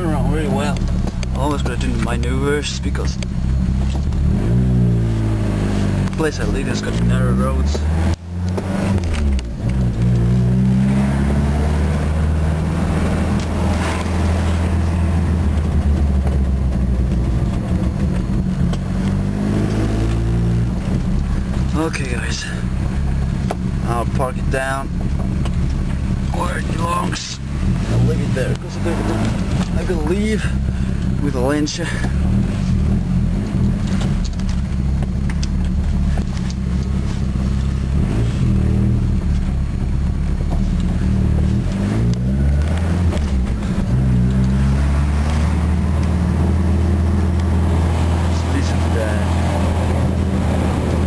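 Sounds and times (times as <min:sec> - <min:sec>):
car engine through broken exhaust: 0:00.0 - 0:51.0.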